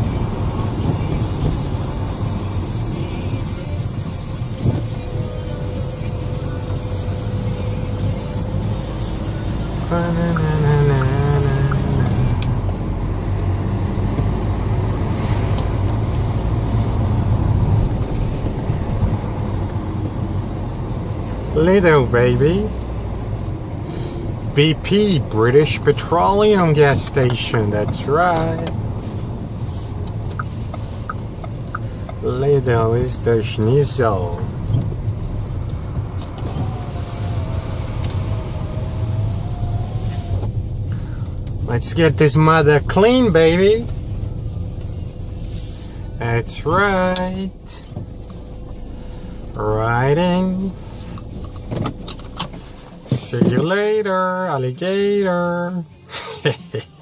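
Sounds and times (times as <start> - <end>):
diesel car engine running: 0.0 - 57.0
road noise: 0.0 - 57.0.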